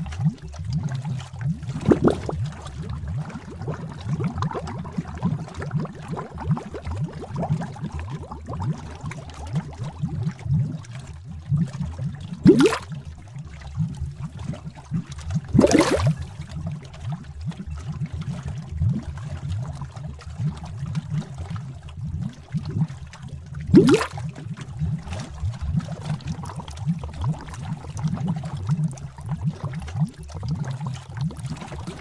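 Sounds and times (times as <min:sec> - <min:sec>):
liquid bubbling and gurgling: 0:00.0 - 0:32.0.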